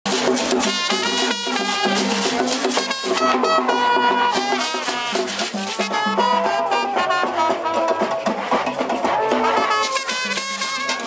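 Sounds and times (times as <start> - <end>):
drums and percussion: 0.0 - 11.0.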